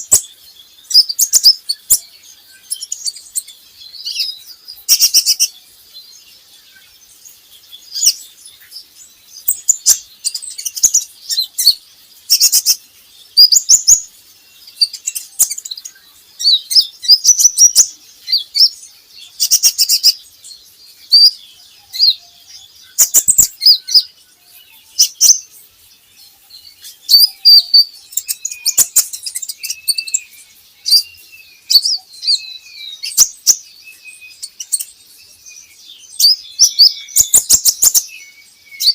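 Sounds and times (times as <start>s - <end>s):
sunbird twittering chirps: 0.0s - 38.9s.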